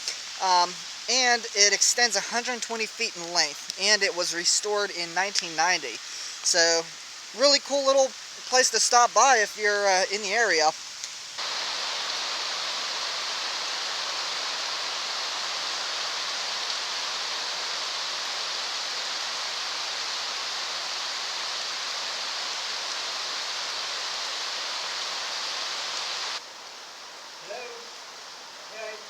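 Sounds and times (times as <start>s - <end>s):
rushing water hiss: 0.0s - 29.0s.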